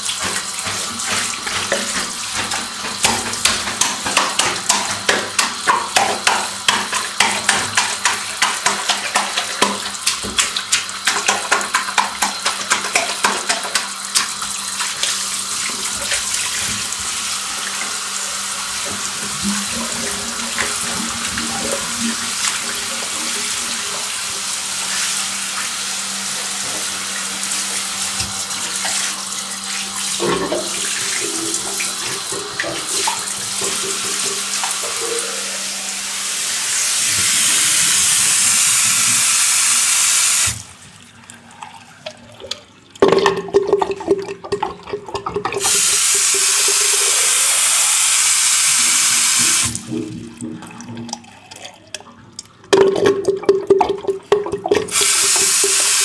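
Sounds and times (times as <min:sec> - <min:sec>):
tap water running into sink: 0:00.0 - 0:56.0.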